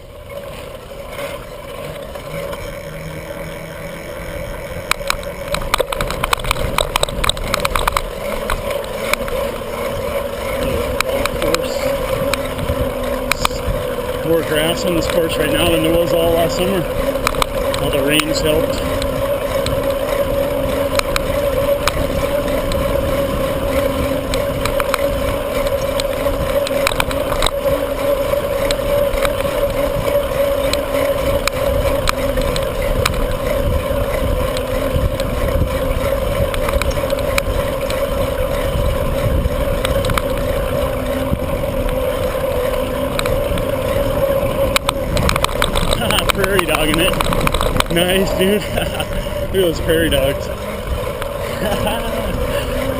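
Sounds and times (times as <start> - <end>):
constant low hum: 0.0 - 52.9
wind buffeting microphone: 0.0 - 52.9
small clicks: 0.3 - 52.9.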